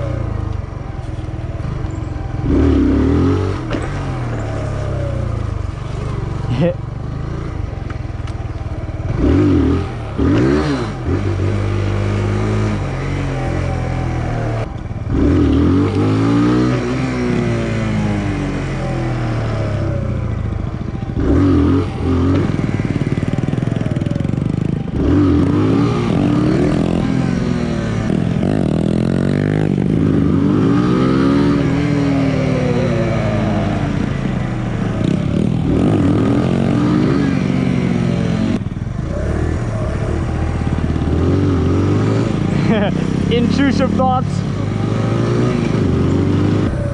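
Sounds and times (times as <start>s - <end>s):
motorcycle engine revving: 0.0s - 46.9s
motorcycle rattling: 0.0s - 46.9s.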